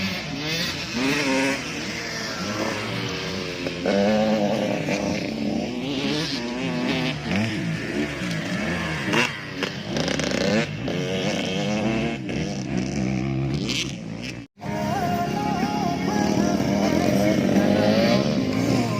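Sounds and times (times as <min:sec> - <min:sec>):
motocross bike engines revving: 0:00.0 - 0:18.9.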